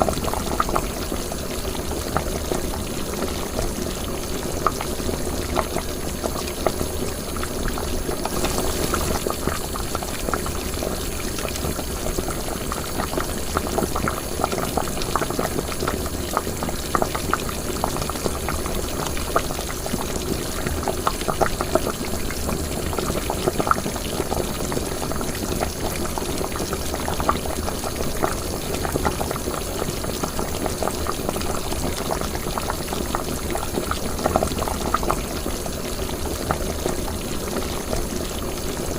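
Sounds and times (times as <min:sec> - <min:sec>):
liquid boiling in a pot: 0:00.0 - 0:38.9.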